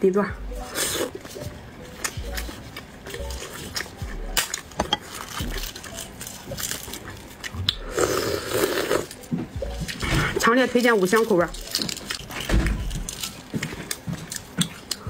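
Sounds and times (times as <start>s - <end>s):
biting and chewing: 0.6s - 15.0s.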